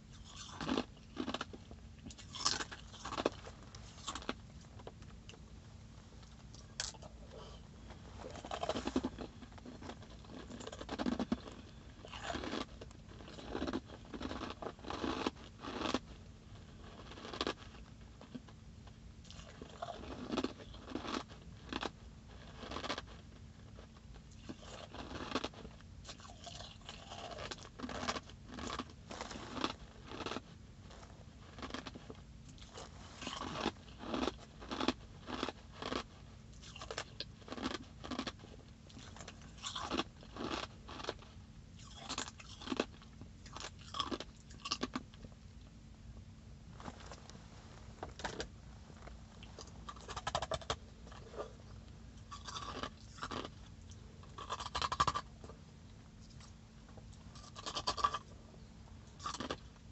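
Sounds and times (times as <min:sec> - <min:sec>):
ice being chewed: 0:00.1 - 0:05.4, 0:06.3 - 0:18.6, 0:19.2 - 0:45.4, 0:46.8 - 0:55.6, 0:56.2 - 0:58.4, 0:59.1 - 0:59.9.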